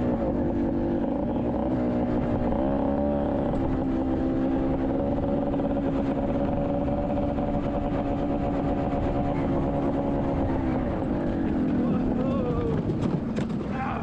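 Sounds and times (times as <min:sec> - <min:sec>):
two-stroke motorcycle engine under load: 0:00.0 - 0:14.0
wind rumbling on microphone: 0:00.0 - 0:14.0.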